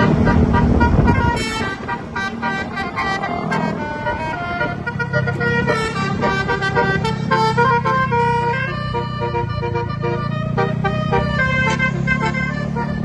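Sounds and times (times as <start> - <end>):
bus engine running: 0.0 - 13.0
multi-note bus horn melody: 0.0 - 13.0.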